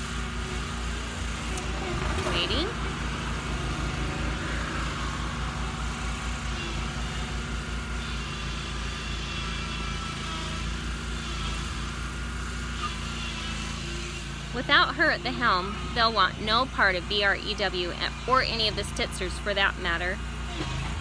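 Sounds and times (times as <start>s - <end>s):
lawnmower engine droning: 0.0s - 21.0s.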